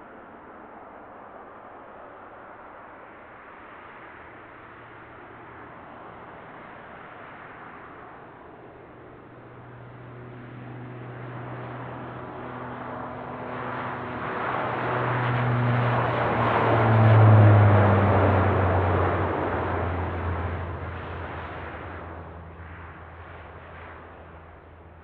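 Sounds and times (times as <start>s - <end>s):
turboprop plane taking off: 0.0s - 25.0s.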